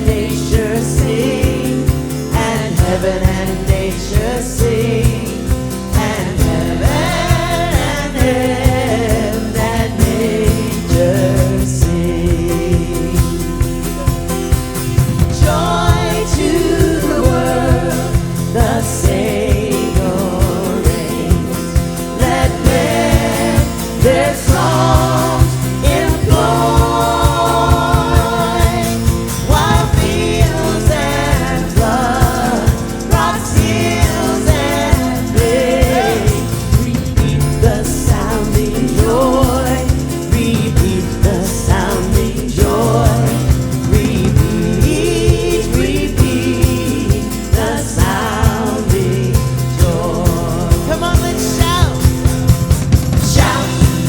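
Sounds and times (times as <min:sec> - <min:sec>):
people singing: 0:00.0 - 0:54.0
steady drum beat: 0:00.0 - 0:54.0.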